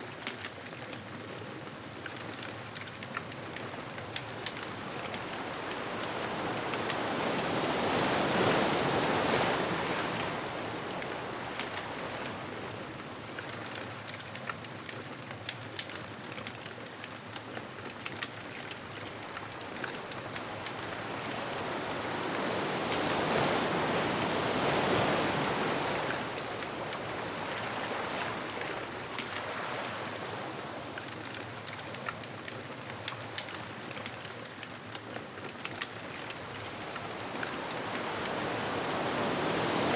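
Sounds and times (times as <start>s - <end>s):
bonfire crackling: 0.0s - 8.0s, 8.9s - 21.5s, 25.6s - 38.6s
ocean waves on a beach: 0.0s - 39.9s.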